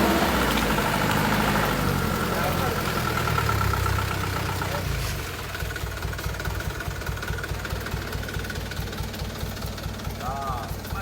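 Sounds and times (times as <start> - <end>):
off-road vehicle engine idling: 0.0 - 11.0.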